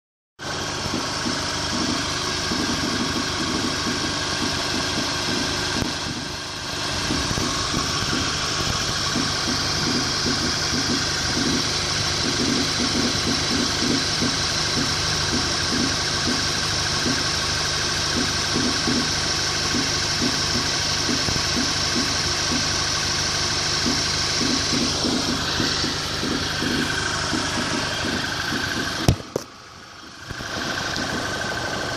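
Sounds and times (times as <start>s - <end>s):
car engine running: 0.4s - 31.9s
engine knocking: 0.4s - 31.9s.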